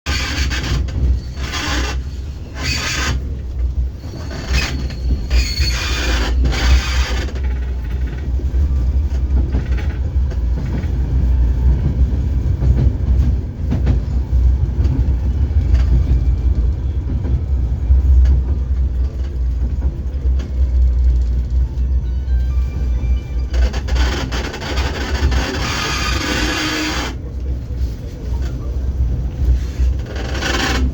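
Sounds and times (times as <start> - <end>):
tram rumbling and creaking: 0.0 - 30.9.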